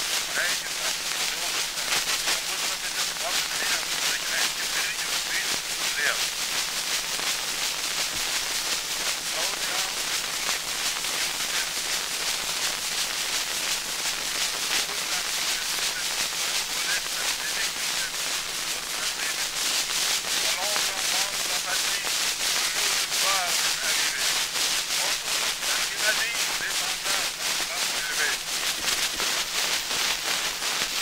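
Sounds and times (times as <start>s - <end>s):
loud steady hiss: 0.0s - 31.0s.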